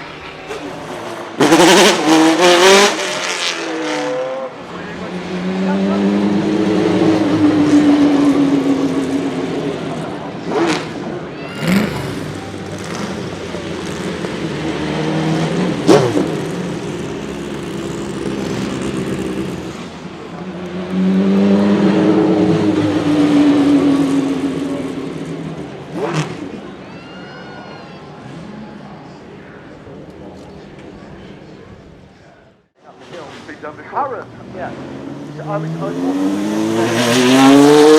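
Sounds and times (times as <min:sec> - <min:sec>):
racing car engine passing by: 0:00.2 - 0:26.8, 0:33.0 - 0:37.9.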